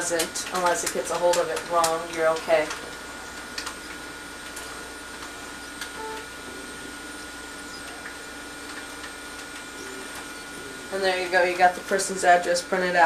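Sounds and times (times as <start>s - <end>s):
desktop printer running: 0.0s - 13.0s.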